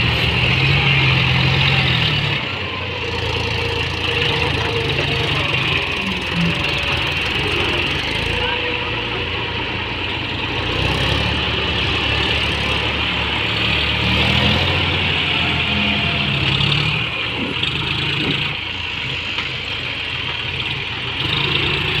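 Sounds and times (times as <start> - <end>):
diesel tractor engine running: 0.0 - 22.0.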